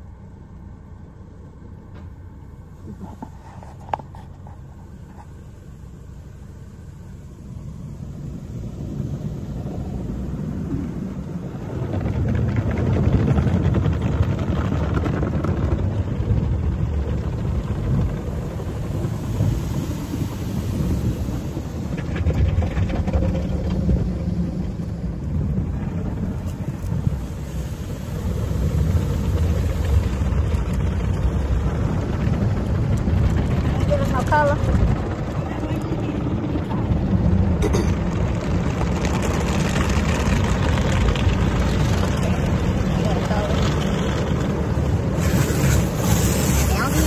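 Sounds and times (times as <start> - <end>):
car wash water spraying on car: 0.0 - 47.0.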